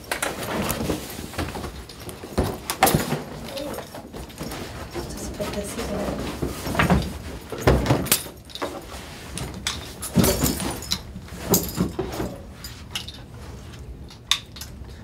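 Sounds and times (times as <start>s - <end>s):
knocks and thuds of people moving: 0.0s - 12.8s.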